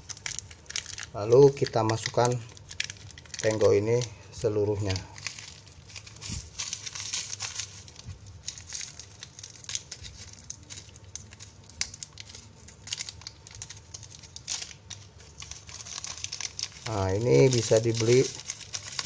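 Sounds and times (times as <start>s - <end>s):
crumbs pouring into bowl: 0.0s - 19.0s
plastic packet crinkling: 0.0s - 19.0s.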